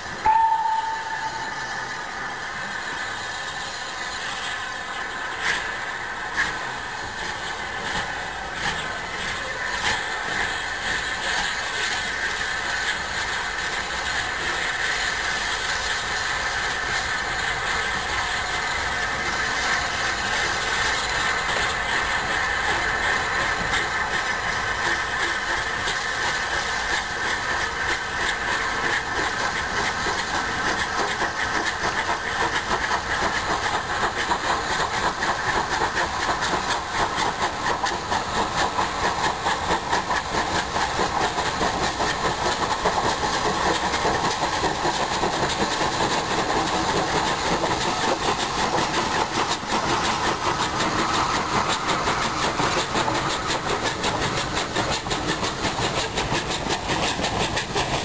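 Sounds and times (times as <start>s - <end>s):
steam hissing: 0.0s - 58.0s
steam locomotive exhaust beats: 0.0s - 58.0s.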